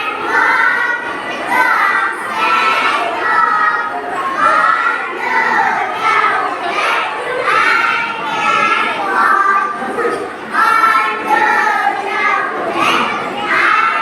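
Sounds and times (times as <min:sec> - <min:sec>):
children chanting in chorus: 0:00.0 - 0:14.0.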